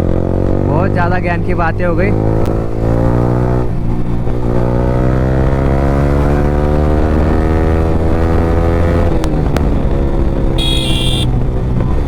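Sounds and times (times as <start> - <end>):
motorcycle engine accelerating: 2.0 - 12.0.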